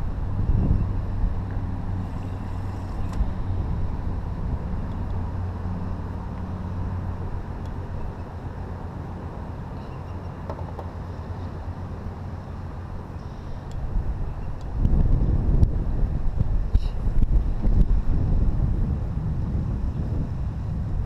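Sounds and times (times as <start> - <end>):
wind noise on microphone: 0.0 - 11.9, 12.8 - 21.0
engine running steadily: 0.0 - 21.0.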